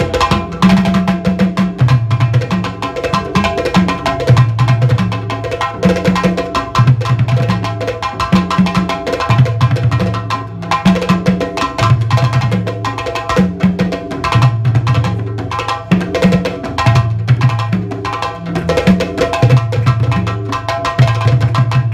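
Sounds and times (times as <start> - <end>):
drums: 0.0 - 21.9.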